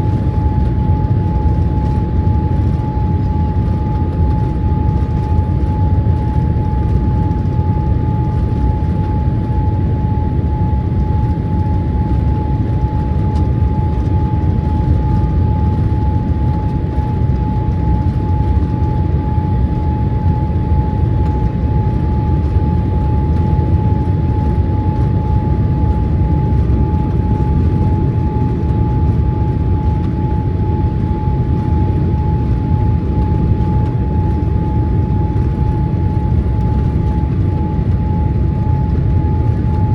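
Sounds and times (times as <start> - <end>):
aircraft engine and airflow rumble: 0.0 - 39.9.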